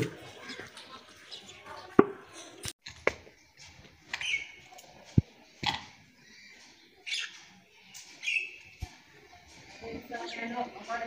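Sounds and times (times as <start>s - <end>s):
birds chirping: 0.0s - 2.7s, 3.3s - 11.0s.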